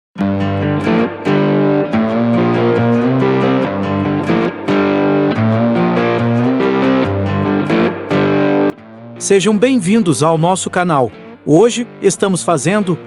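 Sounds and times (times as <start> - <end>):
distorted electric guitar riff: 0.2 - 13.0.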